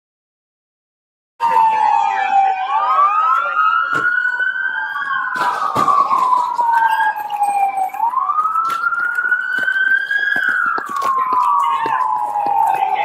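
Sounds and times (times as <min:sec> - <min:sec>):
police siren wailing: 0:01.4 - 0:13.0
second siren: 0:01.4 - 0:13.0.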